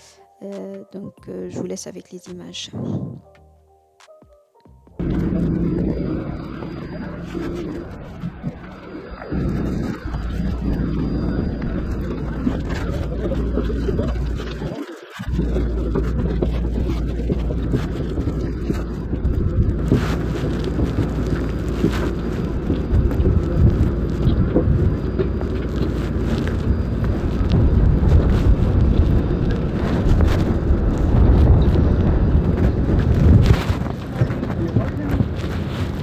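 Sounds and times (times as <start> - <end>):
wind buffeting microphone: 2.6 - 3.3, 5.0 - 36.0.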